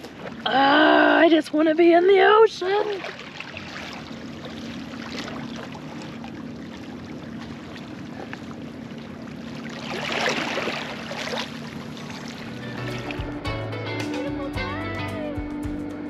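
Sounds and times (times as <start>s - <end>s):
waves lapping over rocks: 0.0s - 13.3s.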